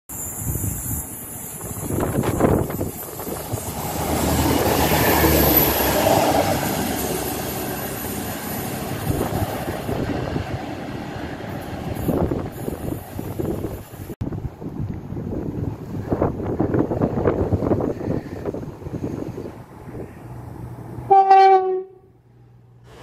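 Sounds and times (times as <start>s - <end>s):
diesel train passing at speed: 0.1s - 23.0s.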